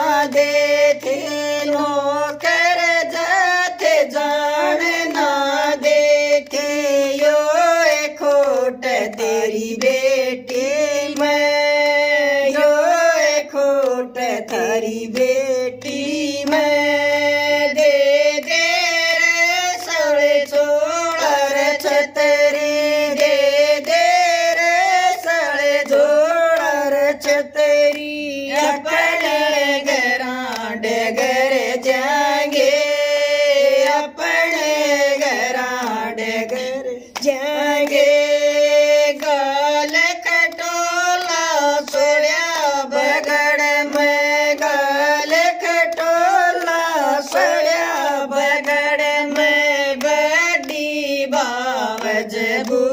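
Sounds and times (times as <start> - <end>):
women singing a folk song: 0.0 - 52.9.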